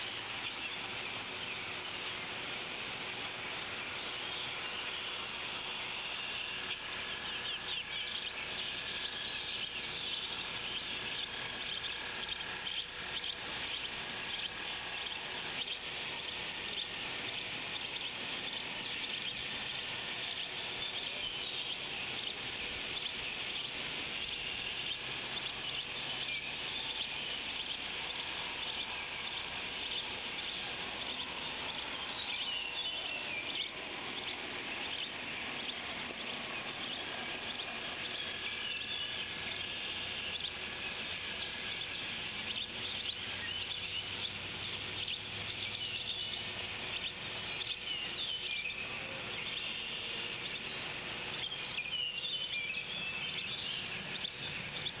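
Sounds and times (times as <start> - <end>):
birds chirping: 0.0 - 55.0
steady outdoor hiss: 0.0 - 55.0.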